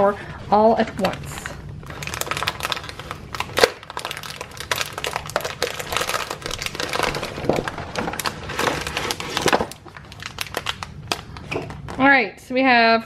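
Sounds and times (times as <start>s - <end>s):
plastic bag crinkling: 0.8s - 12.0s
packing material rustling: 1.0s - 12.0s.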